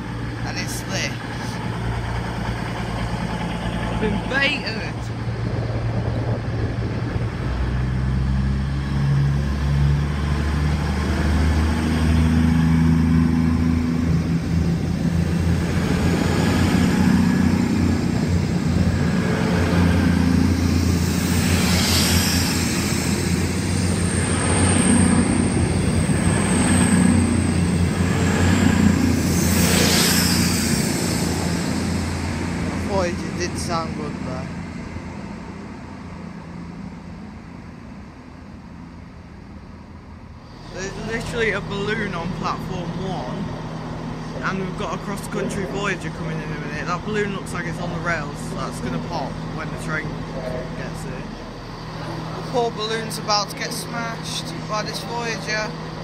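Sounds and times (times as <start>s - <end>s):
diesel train engines droning: 0.0s - 56.0s.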